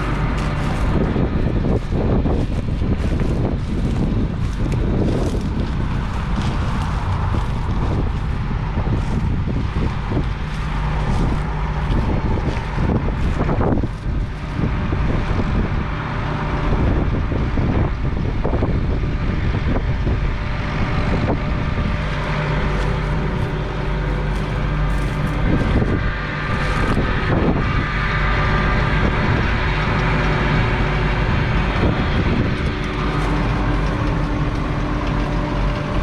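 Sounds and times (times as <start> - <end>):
tractor diesel engine running: 0.0 - 36.0
wind buffeting microphone: 0.0 - 36.0.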